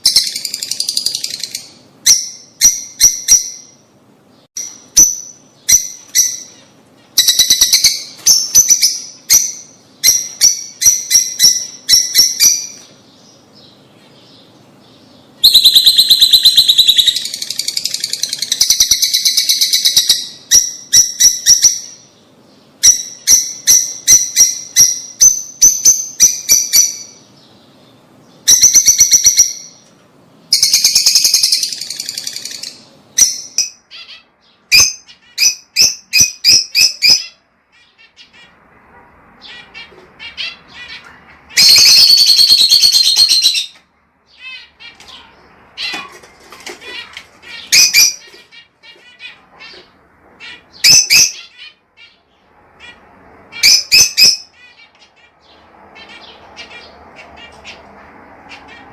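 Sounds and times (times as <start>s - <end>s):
lovebirds chirping and chattering: 0.0s - 58.9s.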